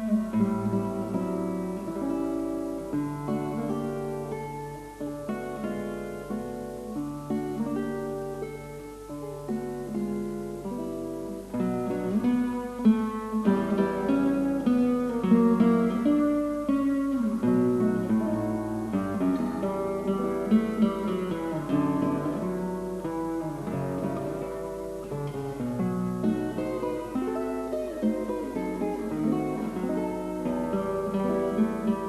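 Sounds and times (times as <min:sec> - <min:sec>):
acoustic guitar plucking and strumming: 0:00.0 - 0:32.0.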